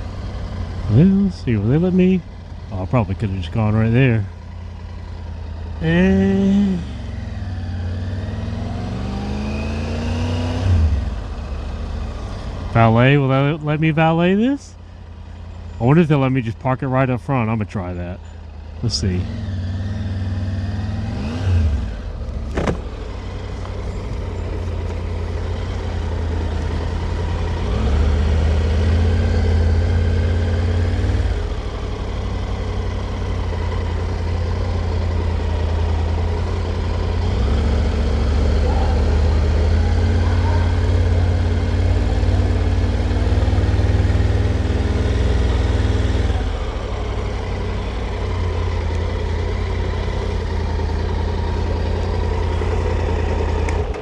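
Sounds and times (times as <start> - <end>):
motorcycle engine revving: 0.0 - 16.0, 18.2 - 54.0.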